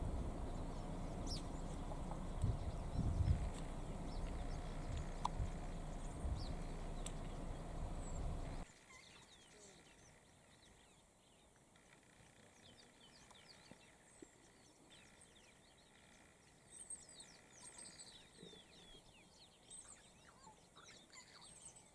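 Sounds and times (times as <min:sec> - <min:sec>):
bird chirps: 0:00.0 - 0:11.1, 0:12.6 - 0:21.9.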